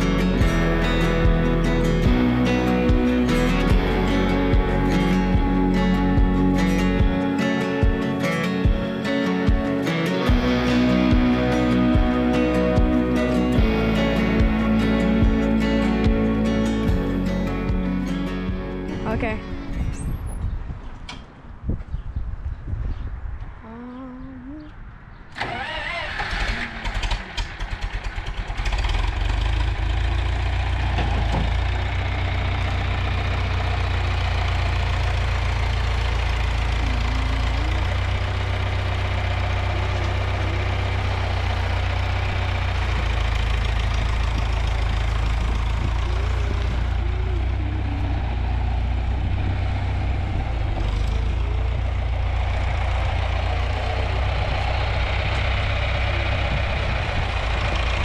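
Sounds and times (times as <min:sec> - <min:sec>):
tractor engine cranking and idling: 0:00.0 - 0:21.5, 0:25.3 - 0:58.0.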